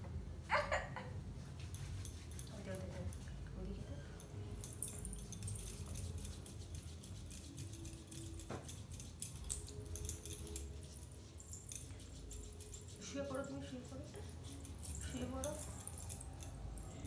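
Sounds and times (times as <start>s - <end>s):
bangles clinking: 1.6s - 3.4s, 4.0s - 17.0s.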